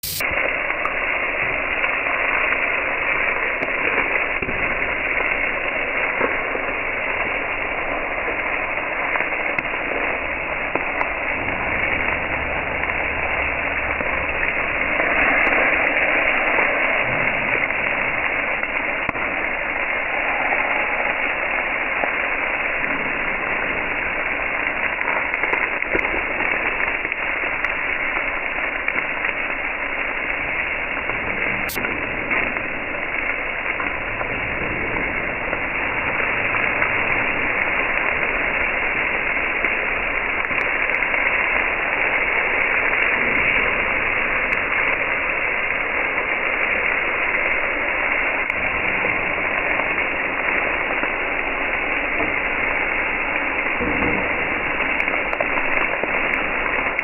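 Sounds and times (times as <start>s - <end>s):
meat sizzling on a grill: 0.0s - 57.0s.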